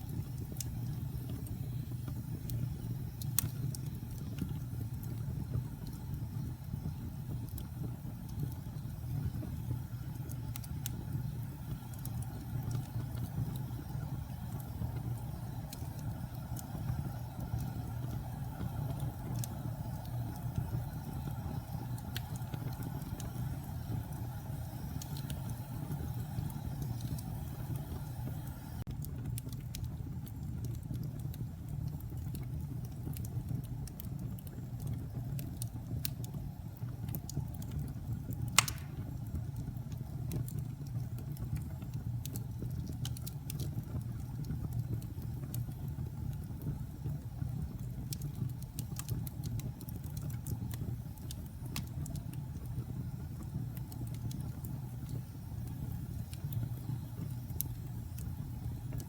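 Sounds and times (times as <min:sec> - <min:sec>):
low rumble of burning fire: 0:00.0 - 0:59.0
wood fire crackling and popping: 0:00.0 - 0:59.0.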